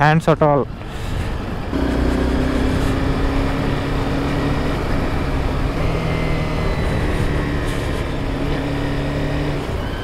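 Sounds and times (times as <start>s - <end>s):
motorcycle engine running: 1.7s - 10.0s.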